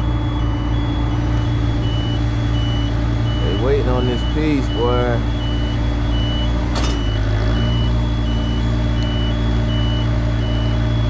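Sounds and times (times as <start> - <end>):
diesel engine running: 0.0 - 11.0
two-tone motion alarm beeping: 0.0 - 11.0.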